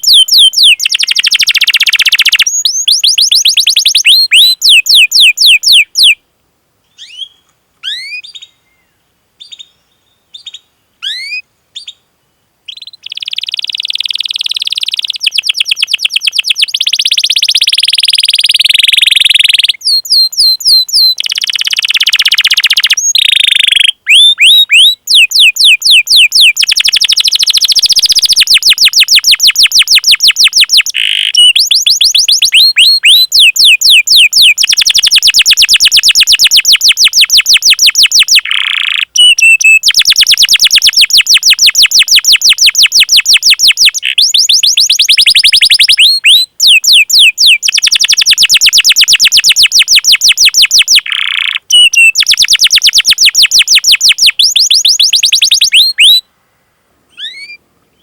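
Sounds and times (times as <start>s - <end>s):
canary singing: 0.0s - 6.2s, 6.9s - 12.0s, 12.7s - 56.2s, 57.1s - 58.0s.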